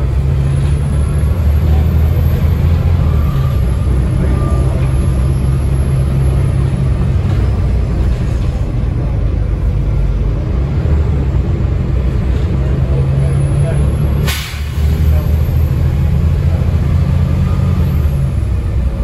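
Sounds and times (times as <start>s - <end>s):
bus diesel engine pulling: 0.0s - 19.0s.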